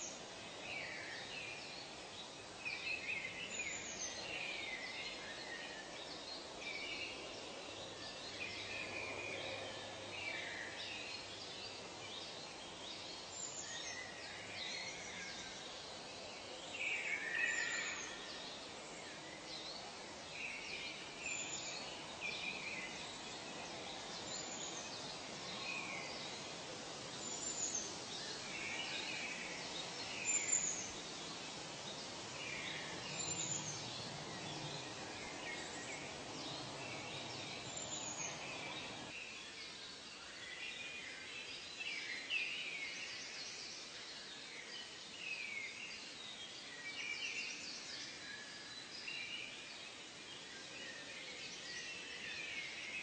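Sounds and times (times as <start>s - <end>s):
steady low hiss: 0.0s - 53.0s.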